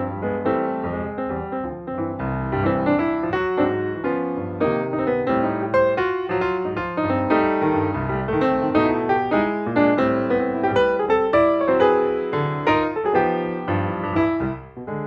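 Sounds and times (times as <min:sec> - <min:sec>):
busy piano piece: 0:00.0 - 0:15.0.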